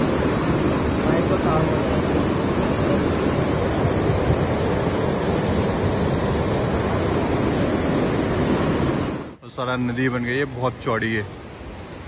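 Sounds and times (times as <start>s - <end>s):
flood water rushing: 0.0s - 12.0s.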